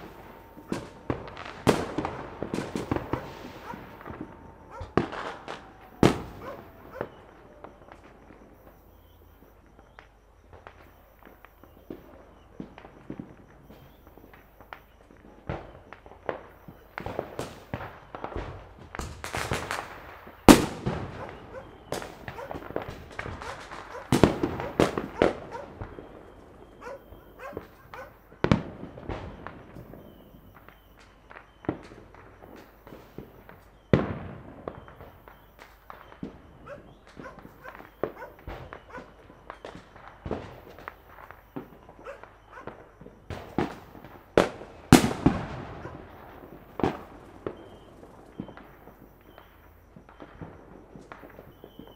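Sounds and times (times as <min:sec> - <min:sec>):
fireworks bangs: 0:00.0 - 0:51.9
rapid firecracker crackling: 0:00.0 - 0:51.9.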